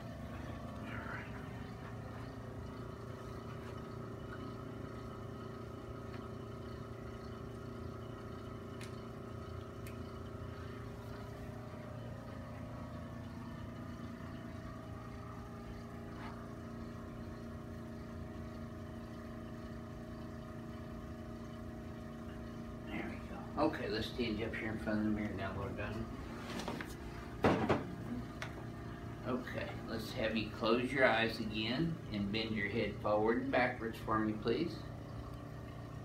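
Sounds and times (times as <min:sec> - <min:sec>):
motor hum: 0:00.0 - 0:36.0.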